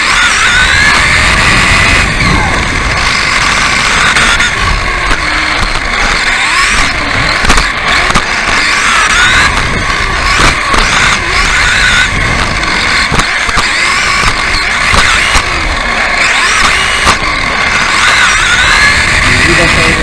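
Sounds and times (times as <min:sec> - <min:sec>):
rc car motor whining: 0:00.0 - 0:20.0.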